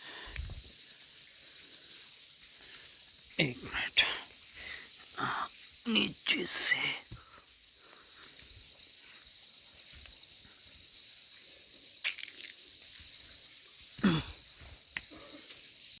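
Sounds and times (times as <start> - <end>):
high insect chorus: 0.0 - 16.0.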